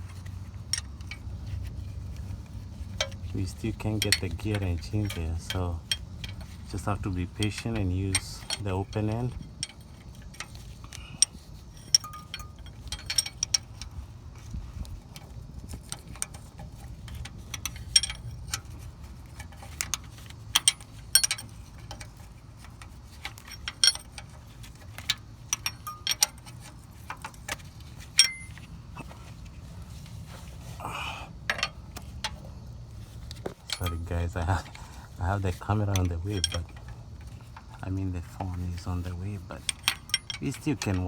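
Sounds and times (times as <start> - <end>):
wrench clinking on bolt: 3.0 - 14.5, 15.2 - 28.7, 31.5 - 32.4, 33.4 - 41.0.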